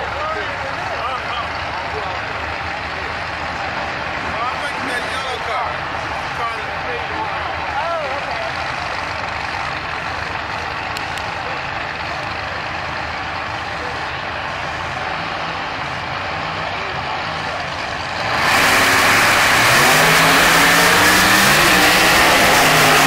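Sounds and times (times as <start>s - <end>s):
drag cars engine roar: 0.0s - 23.0s.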